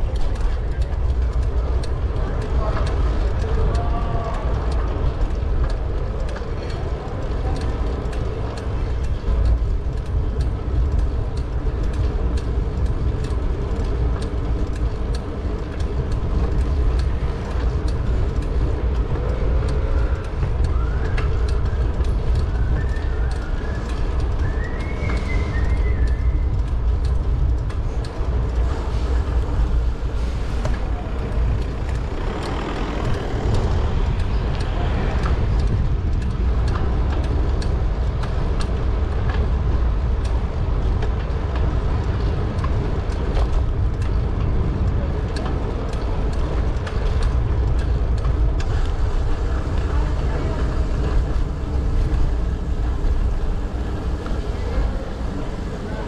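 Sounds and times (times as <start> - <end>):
small clicks: 0.0 - 49.9
wind and road rumble: 0.0 - 56.0.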